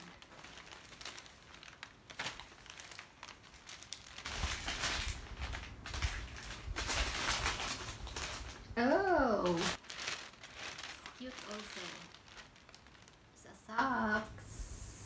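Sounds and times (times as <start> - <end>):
newspaper crumpling: 0.0 - 8.7, 9.3 - 14.2
plastic bag crinkling: 0.0 - 14.3.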